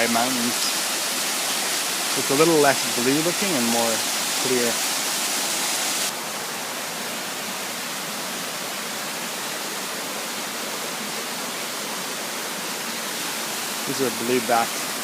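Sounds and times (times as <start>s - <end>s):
rushing stream water: 0.0s - 15.0s.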